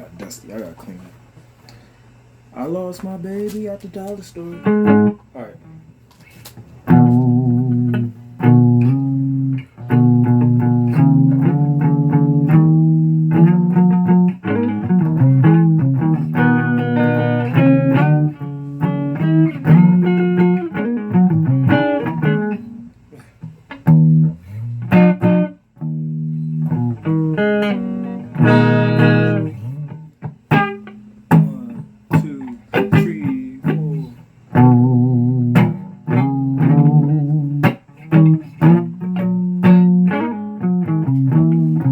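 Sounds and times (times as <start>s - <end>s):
solo guitar plucked notes: 4.5s - 5.8s, 6.9s - 41.9s.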